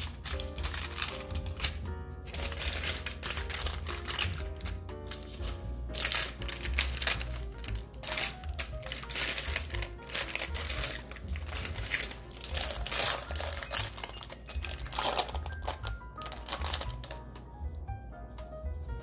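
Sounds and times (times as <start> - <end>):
parchment paper crinkling: 0.0 - 17.4
light background music: 0.0 - 19.0.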